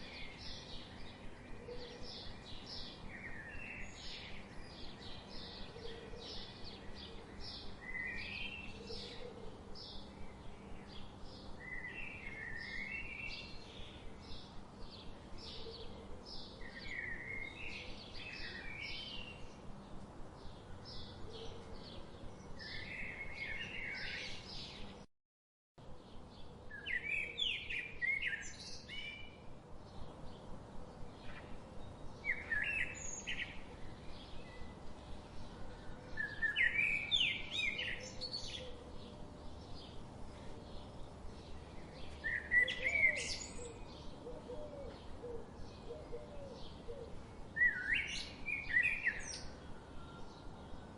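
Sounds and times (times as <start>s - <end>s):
faint background hiss: 0.0s - 25.1s, 25.8s - 50.9s
small birds chirping: 0.0s - 25.1s, 25.8s - 50.9s.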